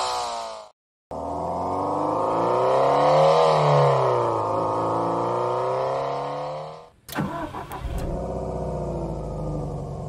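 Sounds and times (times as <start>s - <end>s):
simulated engine revving: 0.1s - 10.0s.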